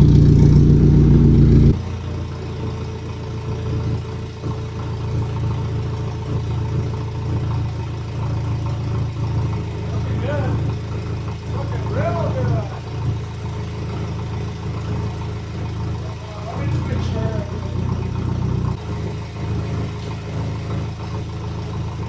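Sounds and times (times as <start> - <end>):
forklift engine running: 0.0 - 22.0.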